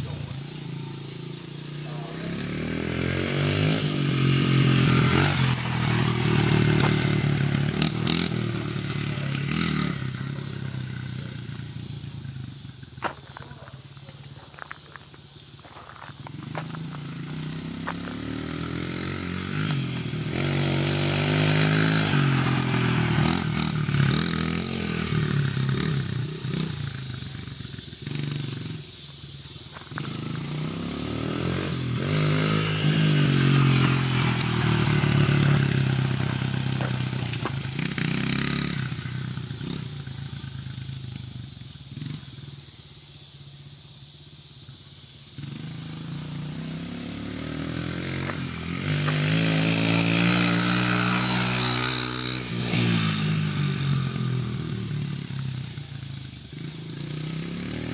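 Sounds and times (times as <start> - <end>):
dirt bike engine revving: 0.0 - 14.4, 15.9 - 42.6, 45.4 - 57.9.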